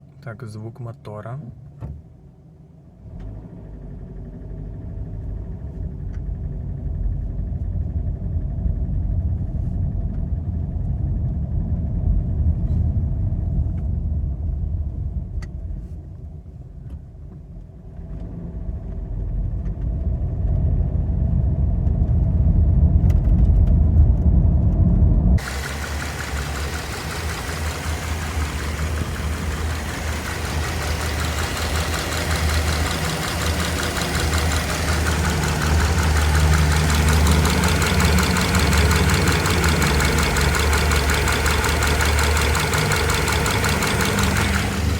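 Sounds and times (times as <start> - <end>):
engine rumbling with knock: 3.1 - 44.9.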